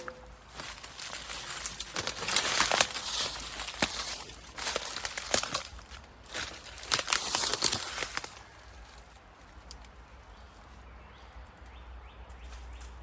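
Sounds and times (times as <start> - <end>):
footsteps crunching over brush: 0.0 - 11.0.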